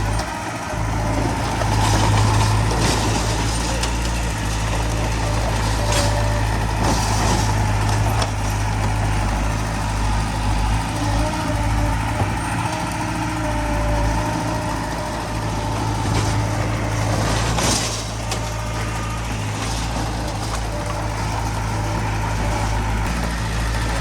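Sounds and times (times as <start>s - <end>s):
diesel construction machinery running: 0.0s - 24.0s.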